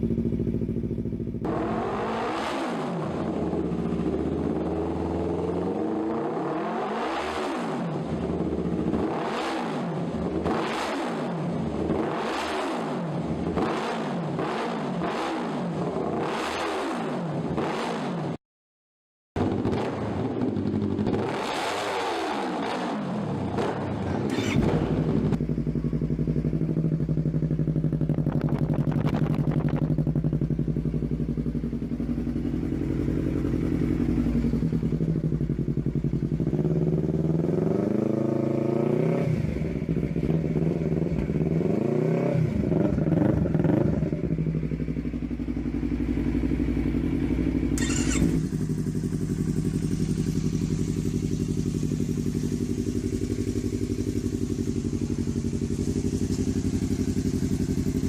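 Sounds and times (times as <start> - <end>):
motorcycle engine revving and idling: 0.0 - 18.4, 19.4 - 58.0.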